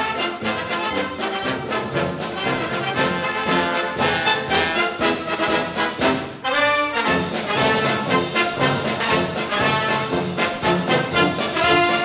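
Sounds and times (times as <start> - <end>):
epic orchestral music with brass: 0.0 - 12.0.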